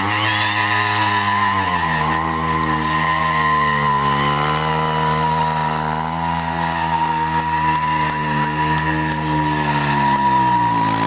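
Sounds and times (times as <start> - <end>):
motorcycle engine revving high: 0.0 - 11.0.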